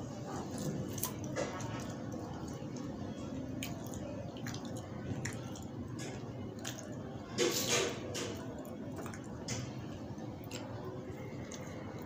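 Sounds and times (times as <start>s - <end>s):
squishing and chewing food: 0.0s - 12.0s.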